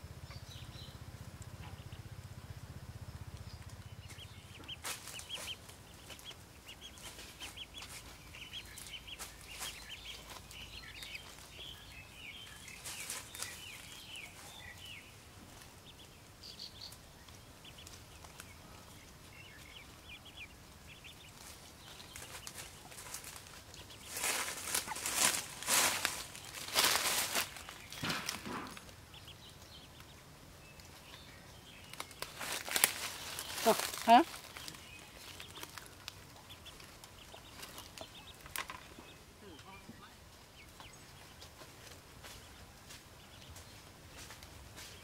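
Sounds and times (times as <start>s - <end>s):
ducklings peeping: 0.0s - 45.0s
rustling in dry grass: 3.5s - 30.1s, 30.8s - 39.0s, 40.3s - 45.0s.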